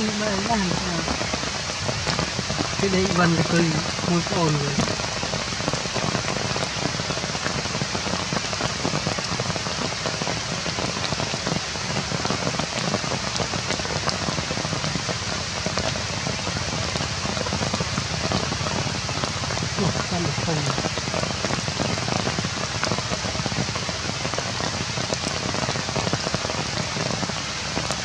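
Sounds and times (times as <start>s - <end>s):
rain falling on leaves: 0.0s - 28.0s.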